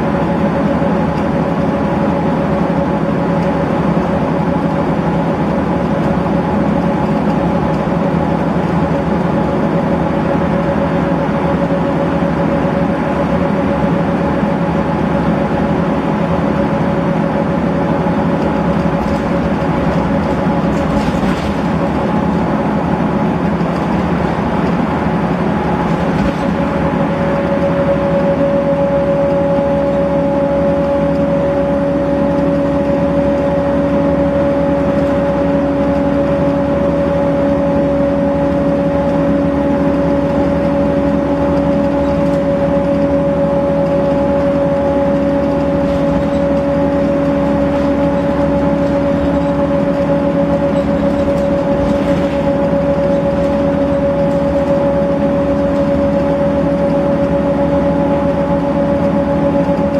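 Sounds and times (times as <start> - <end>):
bus engine drone: 0.0 - 59.9
gearbox whine: 11.2 - 59.9.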